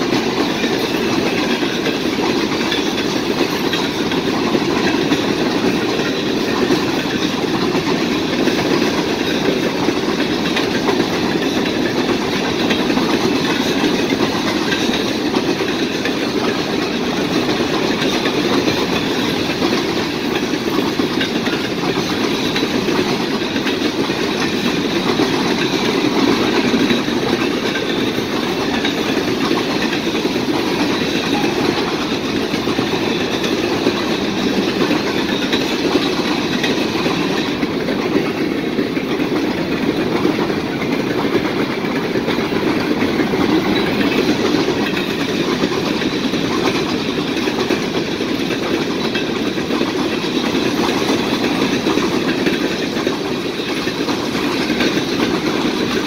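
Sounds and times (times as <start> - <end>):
steel train wheels on rails: 0.0 - 56.0.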